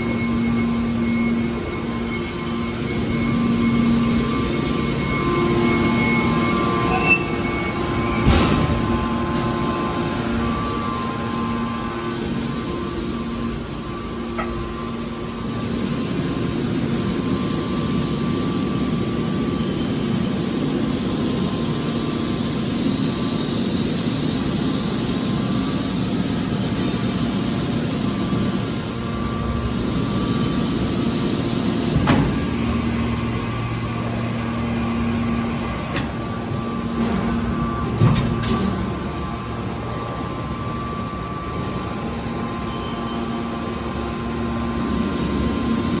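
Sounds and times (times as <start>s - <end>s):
factory machinery humming: 0.0s - 46.0s.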